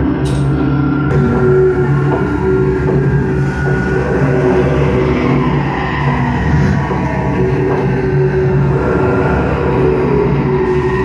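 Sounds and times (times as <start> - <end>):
heavy low rumble: 0.0 - 11.0
loud film soundtrack music: 0.0 - 11.0.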